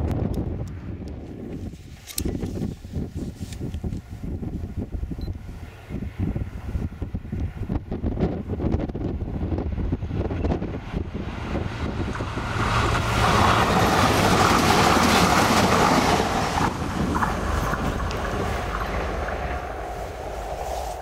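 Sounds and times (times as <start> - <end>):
wind buffeting microphone: 0.0 - 21.0
diesel train passing: 4.1 - 21.0.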